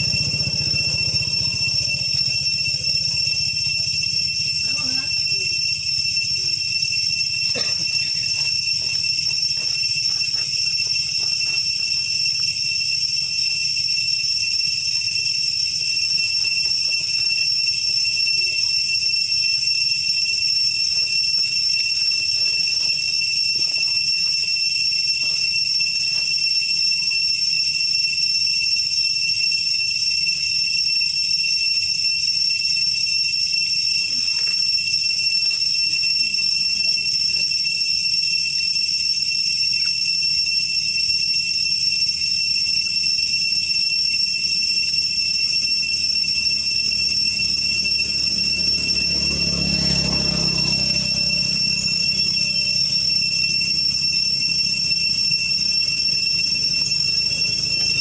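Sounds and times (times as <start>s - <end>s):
high-pitched insect chorus: 0.0s - 31.5s, 32.3s - 58.0s.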